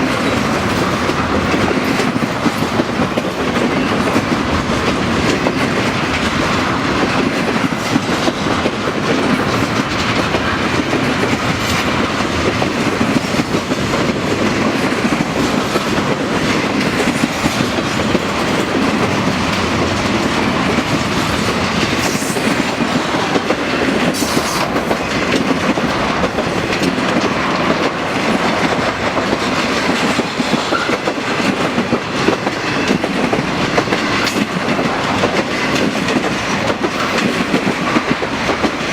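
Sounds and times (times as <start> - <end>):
clickety-clack over rail joints: 0.0 - 38.9
steel wheels rumbling on rail: 0.0 - 38.9.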